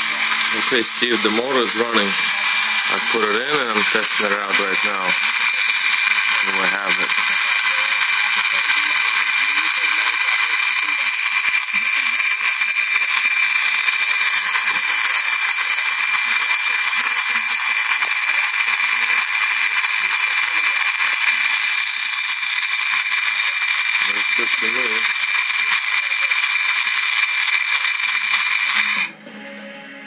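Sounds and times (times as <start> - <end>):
small electric motor whining: 0.0 - 29.2.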